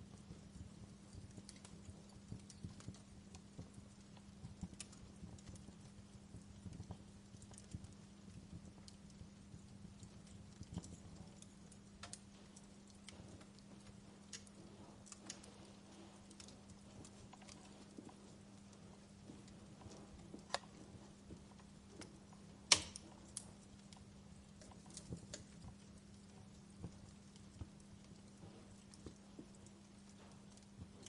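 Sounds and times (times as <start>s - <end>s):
faint low hum: 0.0s - 31.0s
wood fire crackling: 0.0s - 31.0s.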